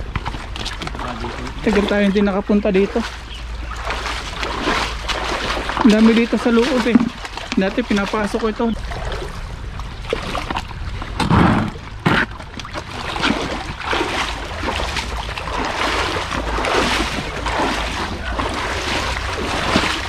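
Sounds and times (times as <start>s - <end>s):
creek water splashing: 0.0s - 20.0s.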